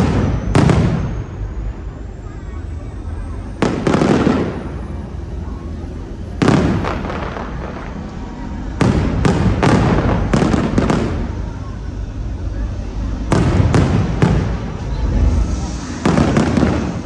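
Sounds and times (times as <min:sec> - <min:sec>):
fireworks bangs with echoing rumble: 0:00.0 - 0:17.0.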